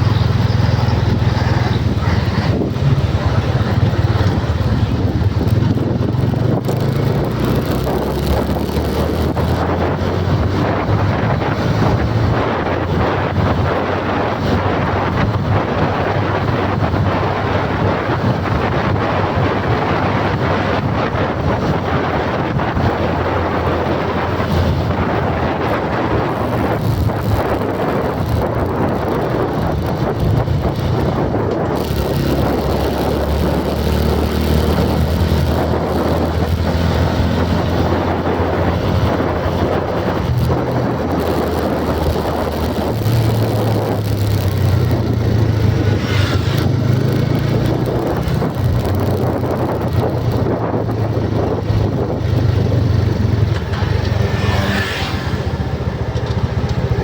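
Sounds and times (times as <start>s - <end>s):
road and wind noise: 0.0s - 57.0s
vehicle engine drone: 0.0s - 57.0s.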